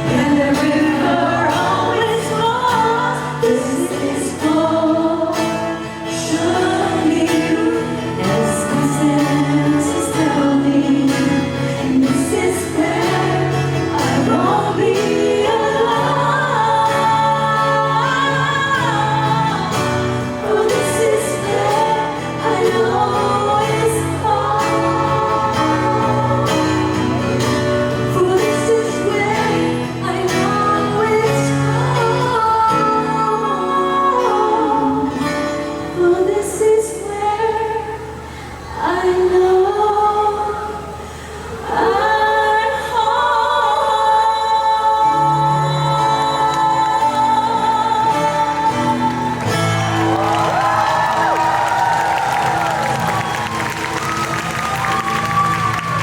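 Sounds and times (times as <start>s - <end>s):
voices singing in harmony: 0.0s - 56.0s.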